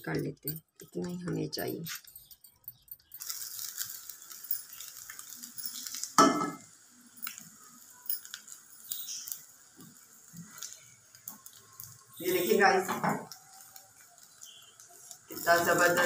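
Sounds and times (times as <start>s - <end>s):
flatbread sizzling in a pan: 3.1s - 16.0s.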